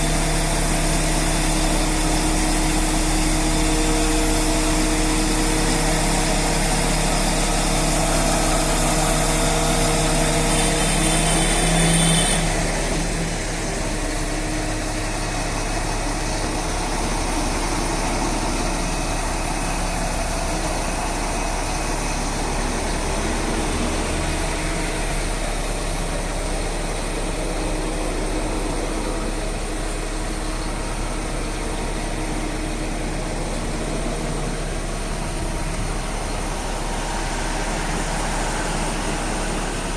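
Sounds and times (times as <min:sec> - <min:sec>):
crane diesel engine running: 0:00.0 - 0:39.9.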